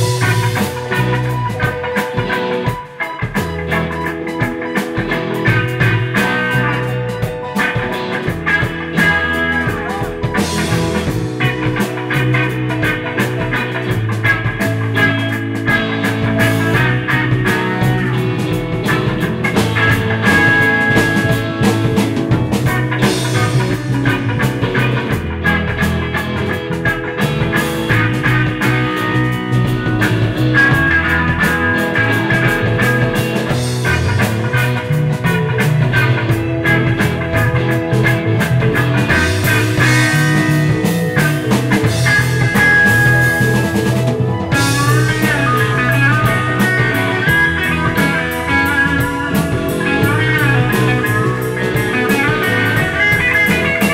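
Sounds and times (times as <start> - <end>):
bass: 0.0 - 53.9
drum kit groove: 0.0 - 53.9
electric guitar: 0.0 - 53.9
keyboards: 0.0 - 53.9.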